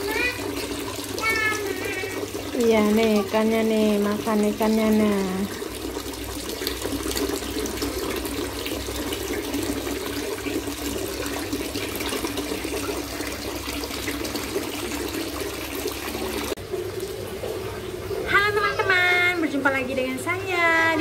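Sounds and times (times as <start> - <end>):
water splashing into pond: 0.0 - 18.3.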